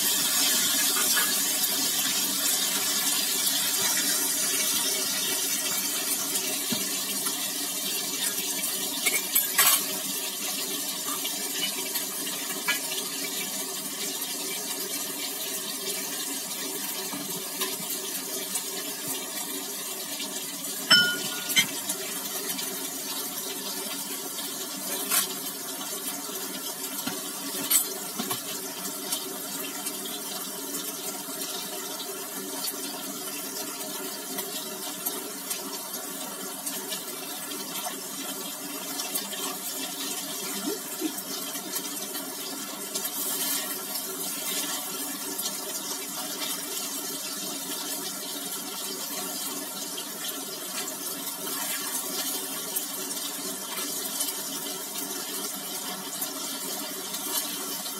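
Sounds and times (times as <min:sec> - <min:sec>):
tofu sizzling in hot oil: 0:00.0 - 0:57.9.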